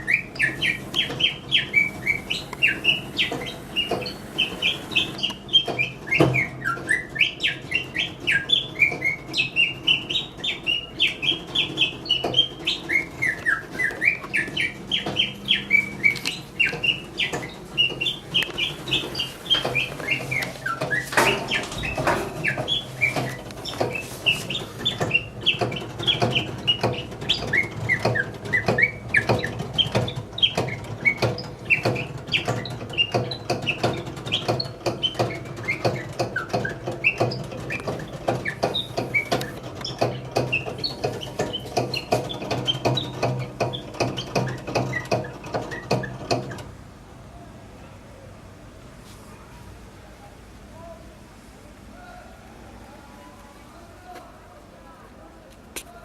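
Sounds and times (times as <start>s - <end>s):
mechanical bird chirping: 0.0s - 46.6s
low mechanical hum: 0.0s - 56.0s.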